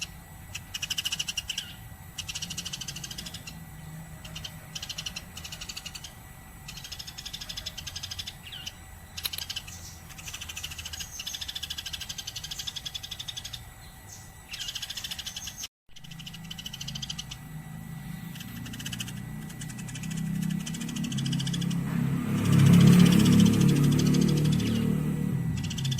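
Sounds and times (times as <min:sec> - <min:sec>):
sparrows chirping: 0:00.0 - 0:25.9.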